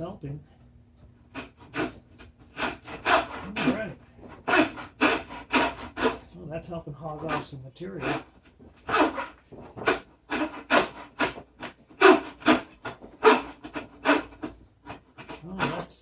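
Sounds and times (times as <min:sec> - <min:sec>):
hand tool rasping: 0:01.3 - 0:06.2, 0:07.2 - 0:16.0.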